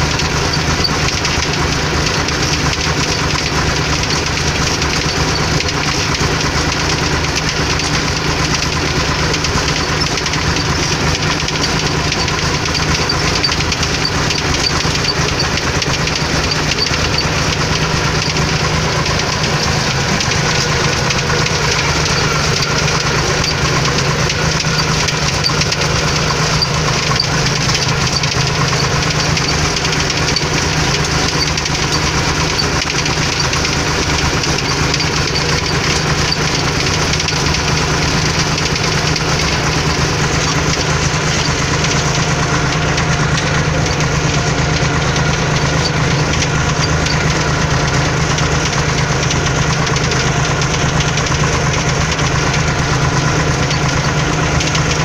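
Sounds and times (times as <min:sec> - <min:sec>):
tractor engine humming: 0:00.0 - 0:55.0.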